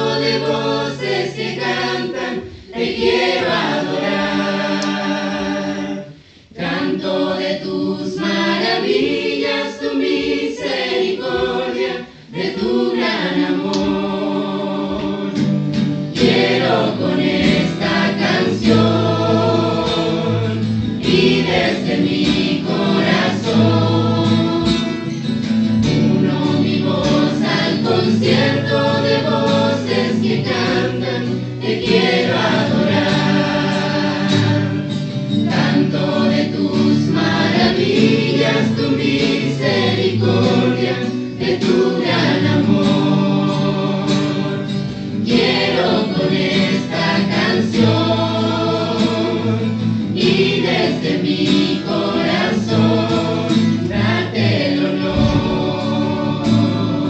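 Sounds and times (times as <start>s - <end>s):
band with guitar: 0.0s - 57.0s
choir singing worship song: 0.0s - 57.0s.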